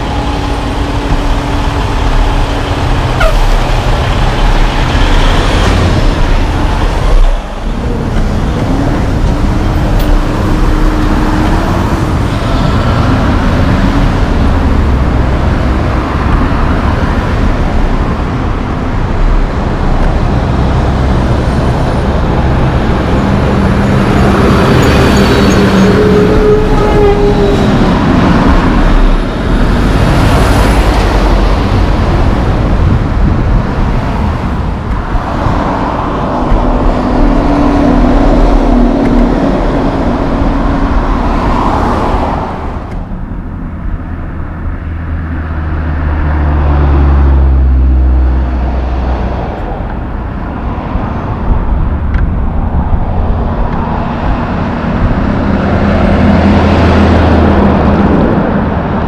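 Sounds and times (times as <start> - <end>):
truck diesel engine rumble: 0.0 - 59.0.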